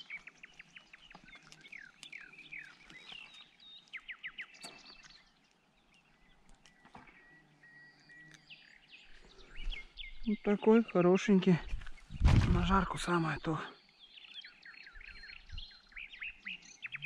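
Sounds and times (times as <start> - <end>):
small songbirds chirping: 0.0 - 17.0.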